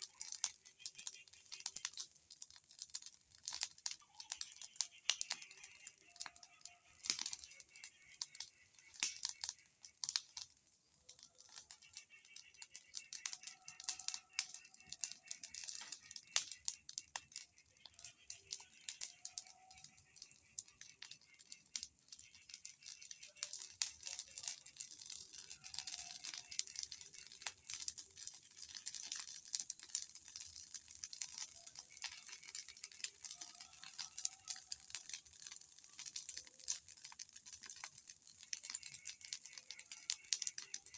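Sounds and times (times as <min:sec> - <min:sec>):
bonfire crackling: 0:00.0 - 0:40.9.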